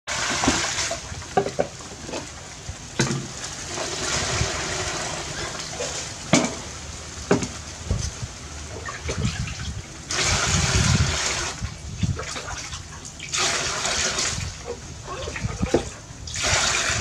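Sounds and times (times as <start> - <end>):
water pouring into plastic basin: 0.1 - 6.3, 8.8 - 17.0.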